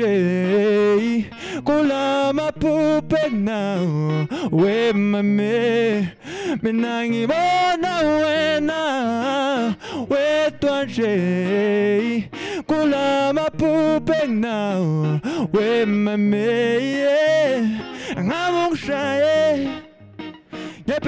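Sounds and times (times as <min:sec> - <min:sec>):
acoustic guitar: 0:00.0 - 0:21.0
man singing: 0:00.0 - 0:21.0.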